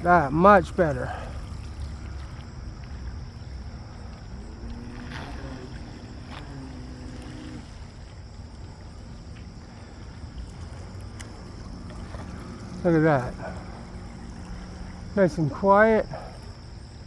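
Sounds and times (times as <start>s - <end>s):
model boat electric motors whining: 0.0s - 17.0s
wind rumbling on microphone: 0.0s - 17.0s.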